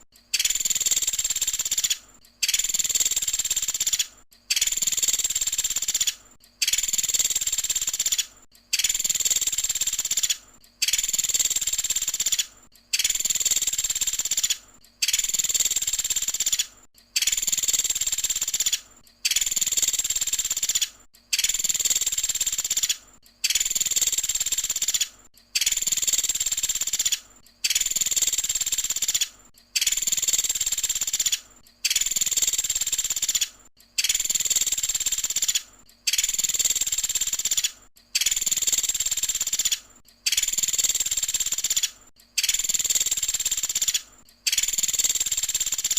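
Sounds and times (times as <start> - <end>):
woodpecker trilling rattle: 0.0 - 45.9.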